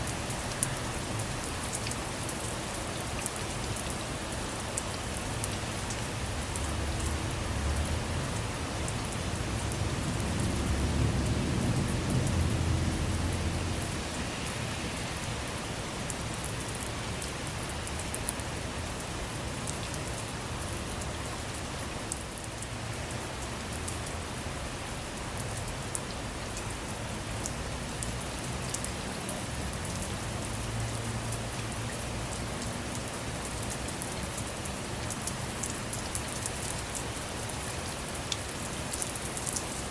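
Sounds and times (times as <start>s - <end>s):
rain falling on a car: 0.0s - 39.9s.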